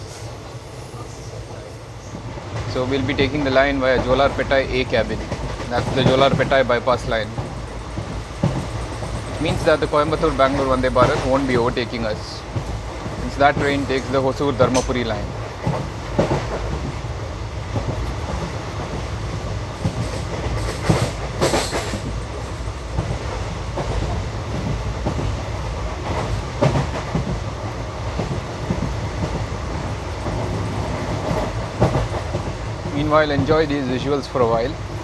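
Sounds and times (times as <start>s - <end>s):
train coaches rumbling on rails: 0.0s - 35.0s.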